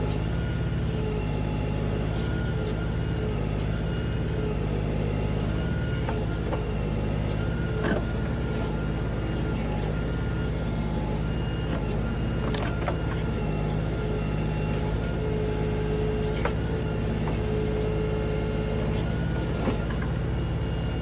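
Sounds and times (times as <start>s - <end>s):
diesel tractor engine running: 0.0s - 21.0s.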